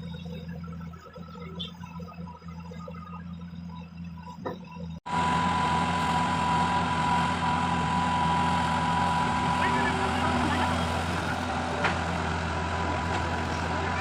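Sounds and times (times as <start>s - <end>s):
excavator diesel engine running: 0.0s - 14.0s
high-pitched whine: 0.0s - 14.0s.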